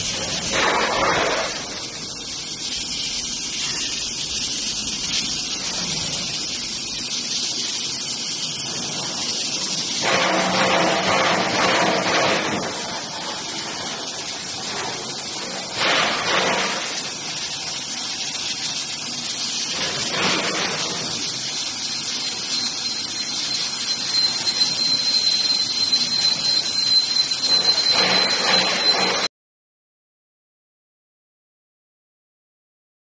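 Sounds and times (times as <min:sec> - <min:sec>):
drilling machine cutting hiss: 0:00.0 - 0:29.3
high steady squeal: 0:00.0 - 0:29.3.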